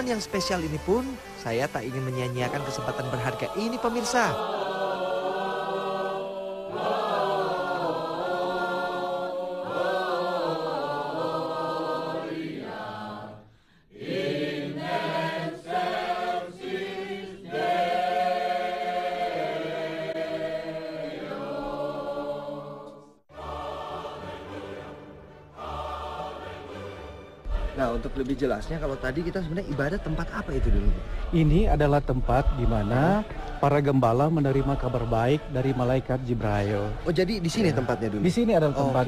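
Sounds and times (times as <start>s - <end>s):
group singing a hymn: 0.0s - 39.0s.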